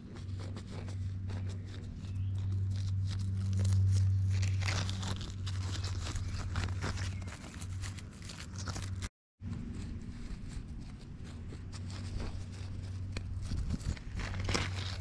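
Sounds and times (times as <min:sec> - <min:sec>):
plastic toys rustling on moss: 0:00.0 - 0:09.1, 0:09.7 - 0:15.0
steady low hum: 0:00.0 - 0:15.0.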